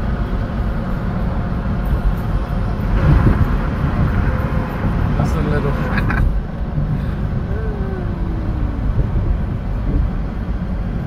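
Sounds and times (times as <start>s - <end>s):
car cabin tyre and engine rumble: 0.0s - 11.0s.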